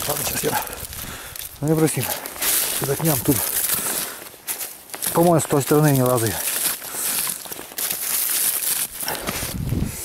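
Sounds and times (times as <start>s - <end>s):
dry reeds crackling and rustling: 0.0s - 10.0s.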